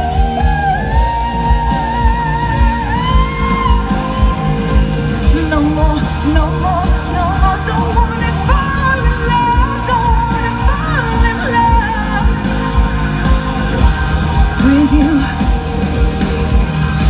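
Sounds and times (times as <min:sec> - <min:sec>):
woman singing: 0:00.0 - 0:12.9, 0:14.5 - 0:15.6
pop-rock band playing: 0:00.0 - 0:17.0
steady drum beat: 0:00.0 - 0:17.0.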